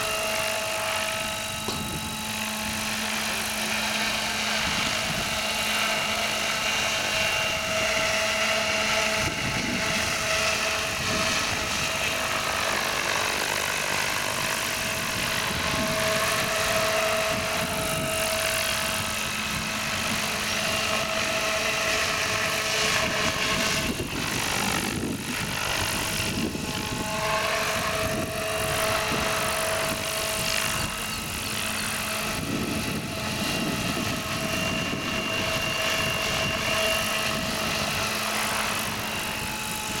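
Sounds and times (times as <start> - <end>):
model helicopter droning: 0.0 - 40.0.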